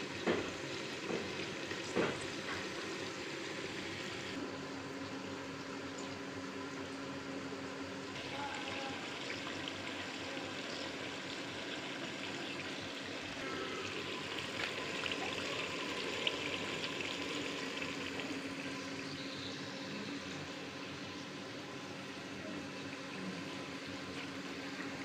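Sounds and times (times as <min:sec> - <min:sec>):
sauce sizzling and bubbling in pot: 0:00.0 - 0:25.0.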